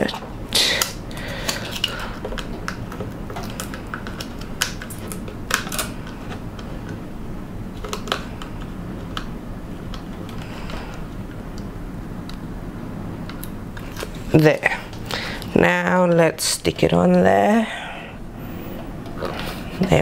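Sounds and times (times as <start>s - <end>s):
steady low background noise: 0.0s - 20.0s.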